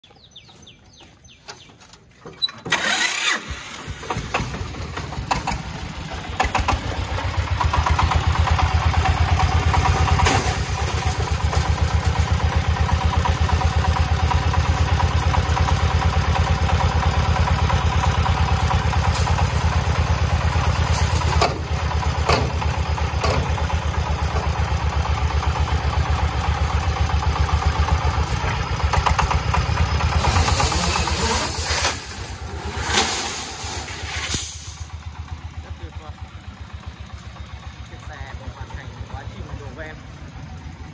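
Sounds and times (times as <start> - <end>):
diesel engine starting and chugging: 2.1 - 40.9.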